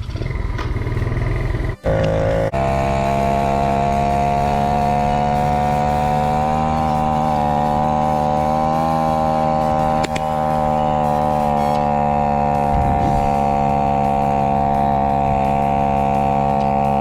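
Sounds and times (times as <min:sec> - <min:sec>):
small engine running under load: 0:00.0 - 0:17.0.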